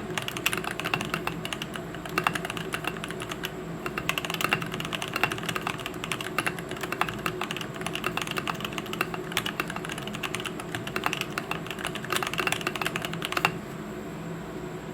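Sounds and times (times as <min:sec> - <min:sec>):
mechanical keyboard typing: 0:00.0 - 0:13.6.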